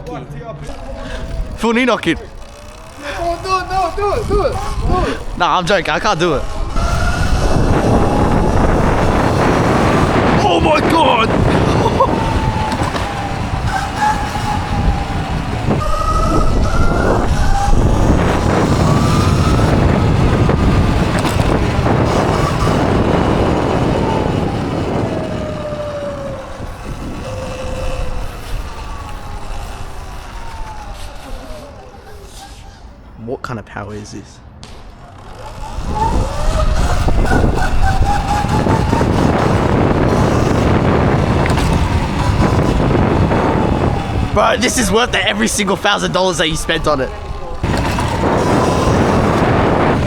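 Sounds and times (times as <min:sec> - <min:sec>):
wind buffeting microphone: 0:00.0 - 0:33.2, 0:34.4 - 0:50.0
electric motor whining: 0:00.6 - 0:33.0, 0:34.8 - 0:50.0.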